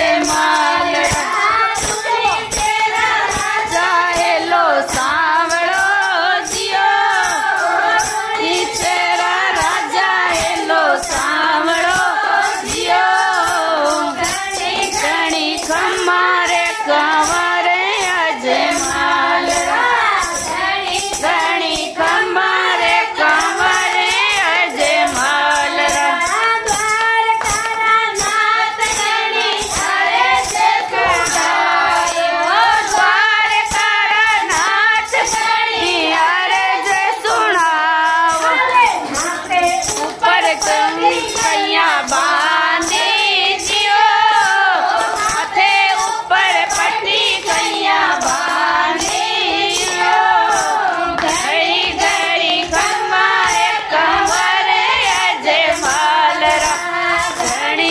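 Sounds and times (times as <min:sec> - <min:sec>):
hand clapping: 0:00.0 - 0:57.9
women singing in unison: 0:00.0 - 0:57.9.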